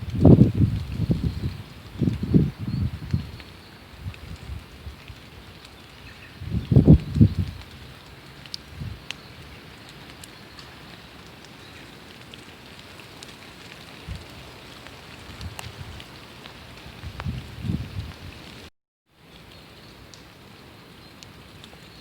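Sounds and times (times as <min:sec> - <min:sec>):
raindrops ticking: 0:00.0 - 0:22.0
steady rain falling: 0:00.0 - 0:22.0.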